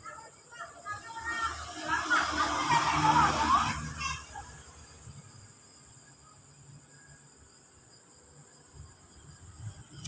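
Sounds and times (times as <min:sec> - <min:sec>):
insect chirring: 0:00.0 - 0:10.0.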